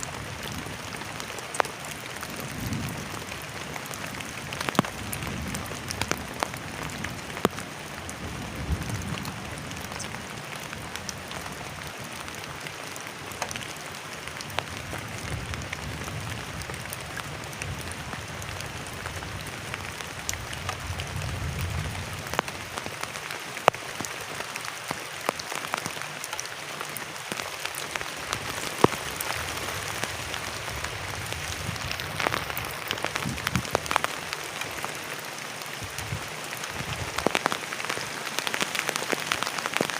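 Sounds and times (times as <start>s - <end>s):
heavy rain falling: 0.0s - 39.9s
raindrops tapping on a surface: 0.0s - 39.9s.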